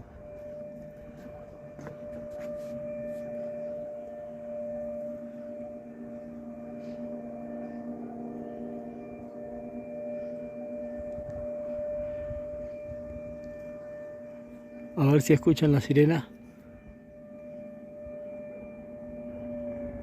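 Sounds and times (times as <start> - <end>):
siren steady tone: 0.0 - 20.0.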